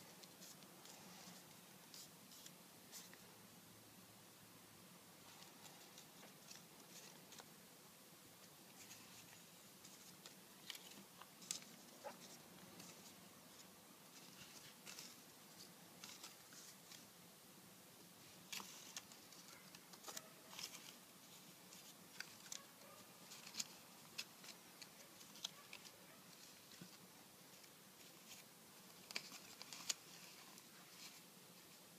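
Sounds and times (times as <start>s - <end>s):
paper rustling and crinkling: 0.0s - 3.2s, 5.2s - 7.5s, 8.7s - 17.1s, 18.2s - 31.8s
soft ticks and crackles: 0.0s - 3.3s, 5.2s - 7.6s, 8.4s - 17.1s, 18.2s - 31.9s.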